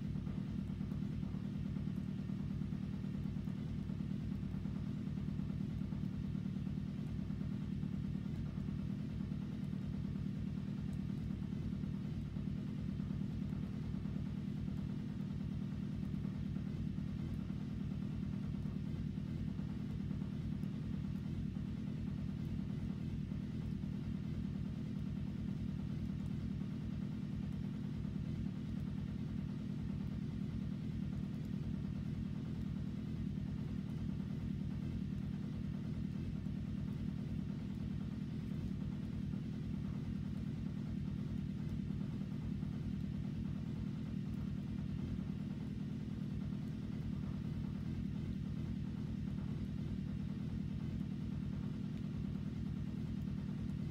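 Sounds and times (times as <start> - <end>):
machine rumbling and humming: 0.0 - 53.9.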